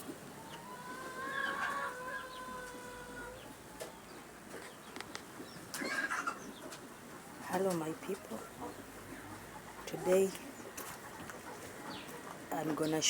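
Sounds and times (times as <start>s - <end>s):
chickens calling: 0.0s - 13.0s
chickens clucking: 0.0s - 13.0s.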